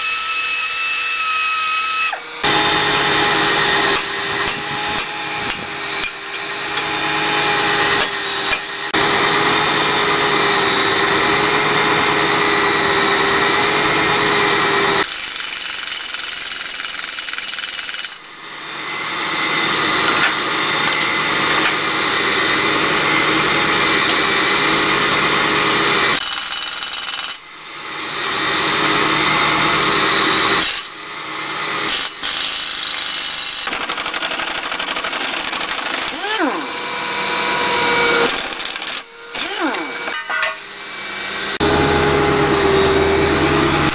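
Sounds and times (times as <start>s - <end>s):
power tool whining: 0.0s - 43.9s.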